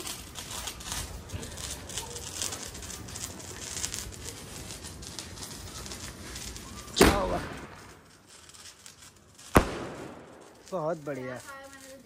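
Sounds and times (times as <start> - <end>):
firework fizzing and crackling: 0.0 - 12.0.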